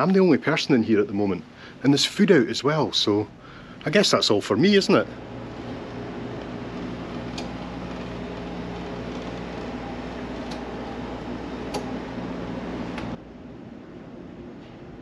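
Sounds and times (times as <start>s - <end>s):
ventilation and machinery hum: 0.0s - 15.0s.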